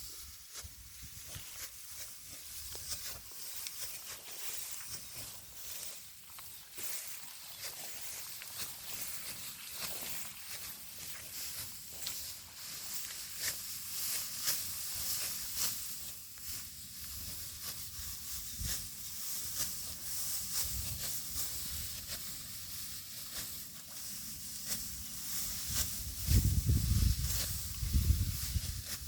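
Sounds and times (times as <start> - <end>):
rice stalks rustling and crackling: 0.0 - 29.0.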